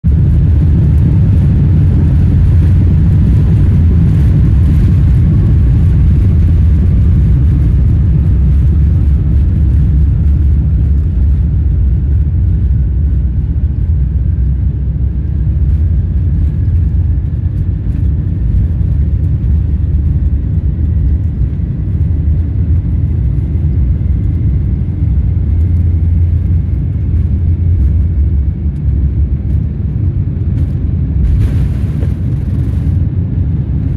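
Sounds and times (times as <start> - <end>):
jet engine rumble inside cabin: 0.0 - 33.9.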